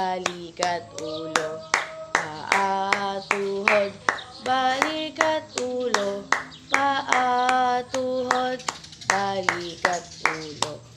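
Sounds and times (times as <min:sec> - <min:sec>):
woman singing: 0:00.0 - 0:10.9
hand clapping: 0:00.2 - 0:10.8.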